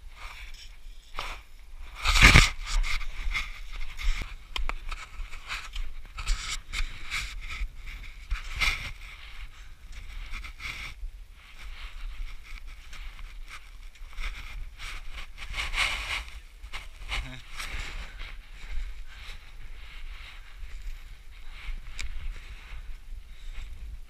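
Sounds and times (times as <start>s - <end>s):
footsteps crunching in snow: 0.1s - 24.0s.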